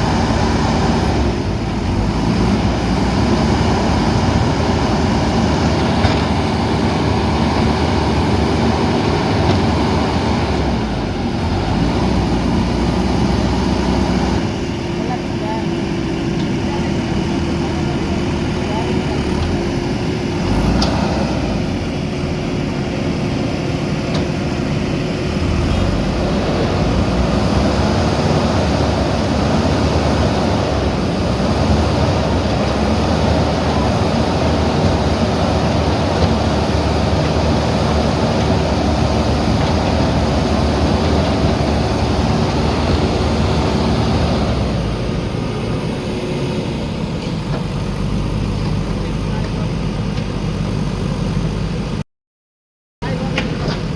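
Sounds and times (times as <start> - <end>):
diesel engine droning: 0.0 - 52.0, 53.0 - 53.9.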